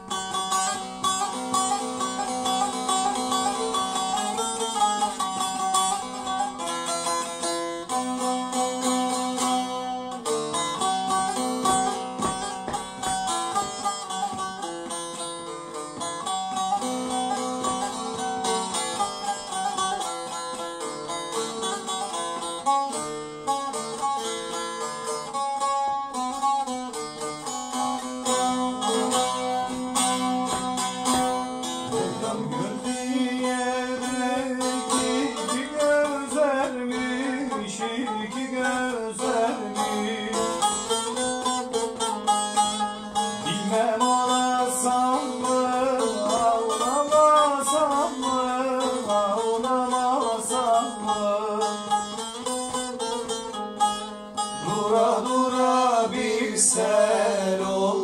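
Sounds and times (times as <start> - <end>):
long-necked lute folk melody: 0.0 - 58.0.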